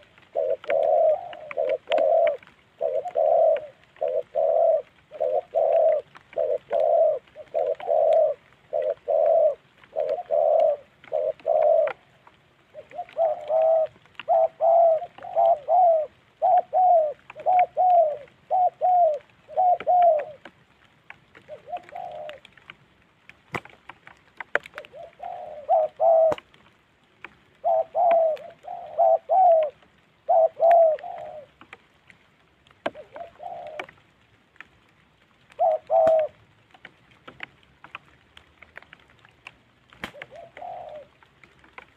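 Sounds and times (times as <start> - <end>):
doves cooing: 0.0 - 22.8, 24.2 - 31.8, 32.8 - 34.2, 35.4 - 41.9.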